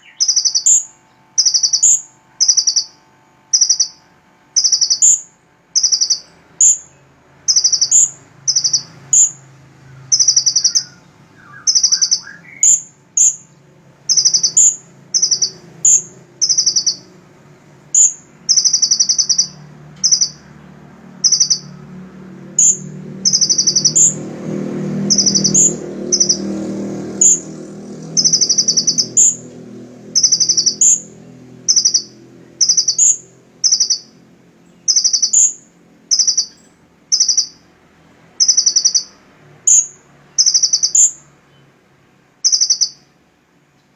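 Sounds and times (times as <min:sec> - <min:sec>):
bird singing buzzy trill: 0:00.0 - 0:43.9.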